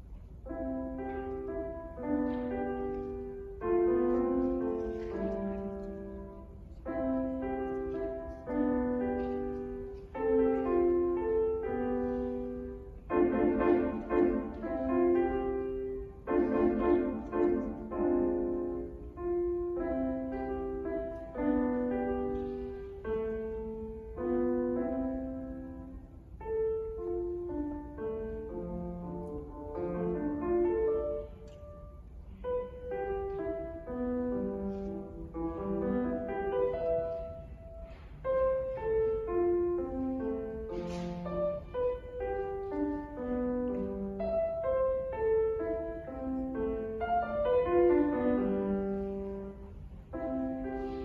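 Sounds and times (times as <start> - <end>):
grand piano melody: 0.0 - 51.0.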